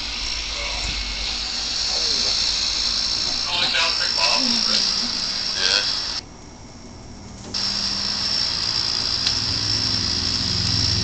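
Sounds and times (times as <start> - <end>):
electronic hiss: 0.0 - 6.2, 7.5 - 11.0
low hum: 0.0 - 11.0
thin high whine: 0.0 - 11.0.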